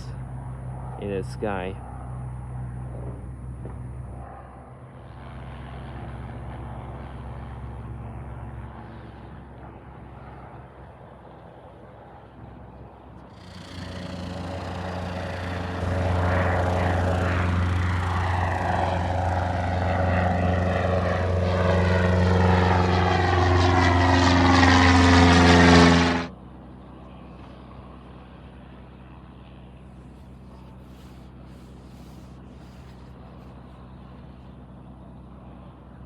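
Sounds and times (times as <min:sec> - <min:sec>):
propeller airplane engine: 0:00.0 - 0:36.0.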